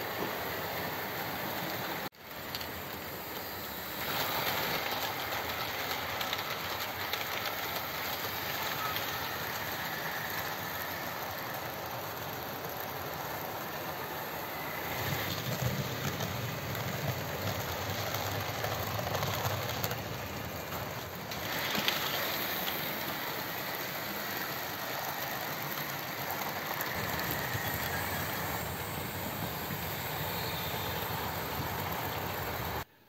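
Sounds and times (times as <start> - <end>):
model trains whirring on track: 0.0 - 33.0.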